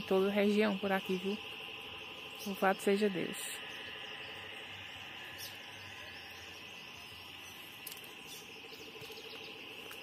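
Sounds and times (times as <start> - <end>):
frogs and insects calling: 0.0 - 10.0.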